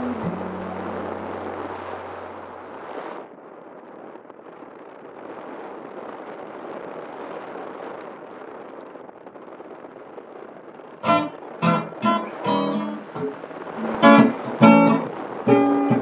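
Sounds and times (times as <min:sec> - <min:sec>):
rushing wind and airflow: 0:00.0 - 0:16.0.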